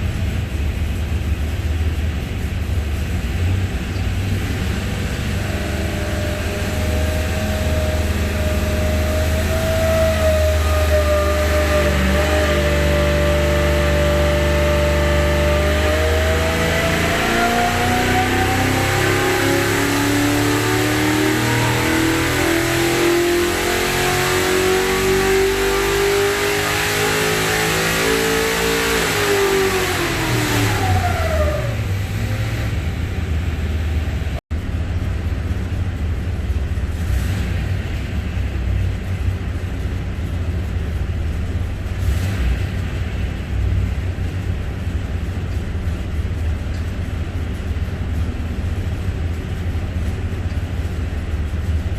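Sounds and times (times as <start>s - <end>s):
race car engine revving: 0.0s - 34.4s, 35.1s - 51.9s.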